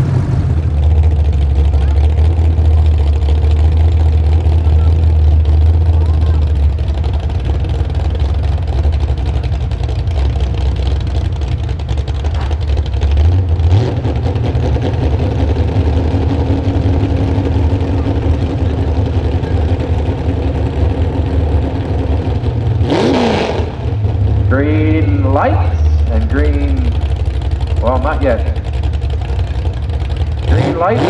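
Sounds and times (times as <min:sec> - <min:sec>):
truck engine idling: 0:00.0 - 0:31.0.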